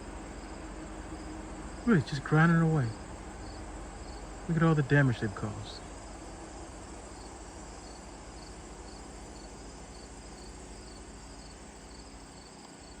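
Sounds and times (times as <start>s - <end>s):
background hiss: 0.0s - 13.0s
insect chirping: 0.0s - 13.0s.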